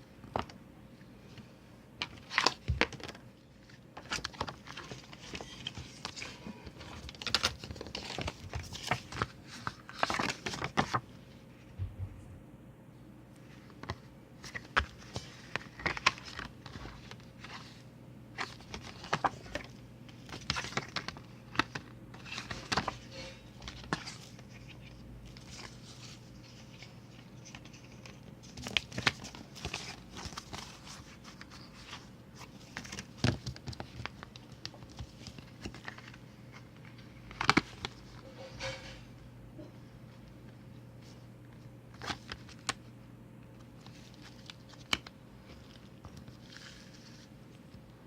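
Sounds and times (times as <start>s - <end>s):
steady low hum: 0.0s - 48.0s
paper and plastic rustling: 2.0s - 11.7s, 13.4s - 39.1s, 43.6s - 47.4s.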